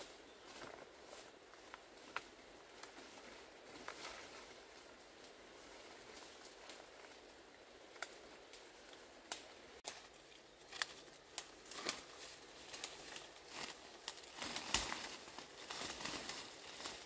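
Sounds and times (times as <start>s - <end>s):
footsteps crunching through dry leaves: 0.0s - 9.2s, 9.8s - 17.0s
brushing through undergrowth: 0.0s - 17.0s.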